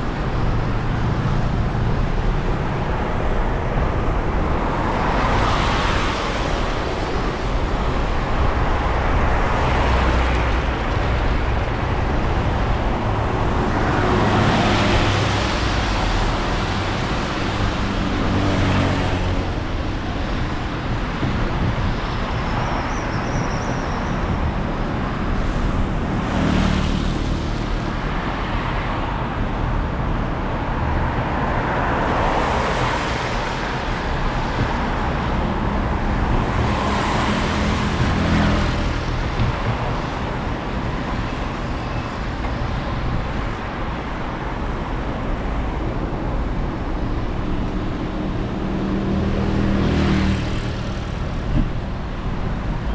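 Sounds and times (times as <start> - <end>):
cars passing on wet road: 0.0 - 22.8, 24.2 - 52.9.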